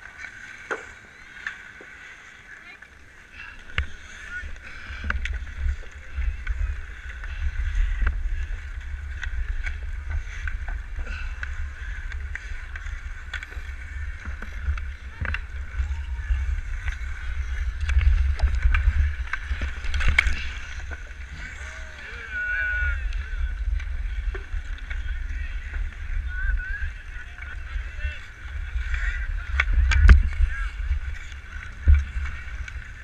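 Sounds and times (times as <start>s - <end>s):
low wind rumble: 0.0s - 33.0s
skates scraping ice: 0.0s - 33.0s.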